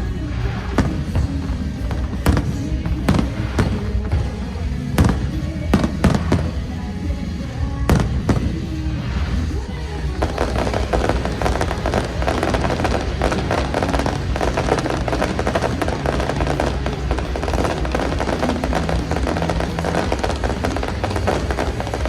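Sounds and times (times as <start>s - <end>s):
fireworks crackling: 0.0s - 22.0s
music playing: 0.0s - 22.0s.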